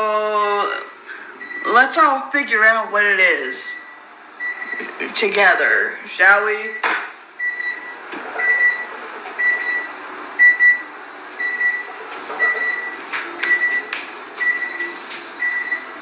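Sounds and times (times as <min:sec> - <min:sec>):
appliance beeping: 0:00.0 - 0:02.8, 0:03.4 - 0:16.0.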